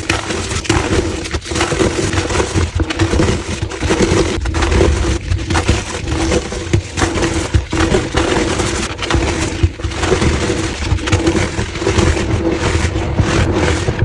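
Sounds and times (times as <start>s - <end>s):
chalk being crushed and crumbled: 0.0s - 14.0s.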